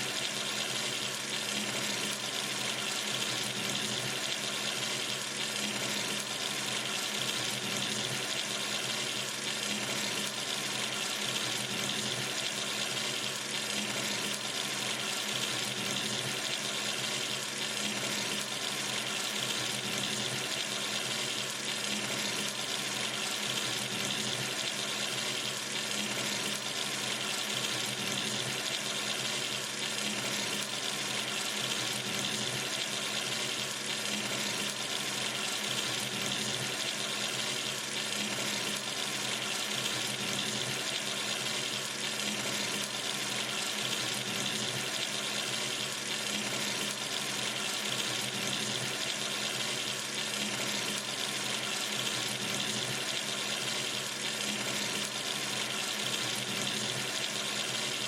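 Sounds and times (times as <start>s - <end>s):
tap water running into sink: 0.0s - 58.0s.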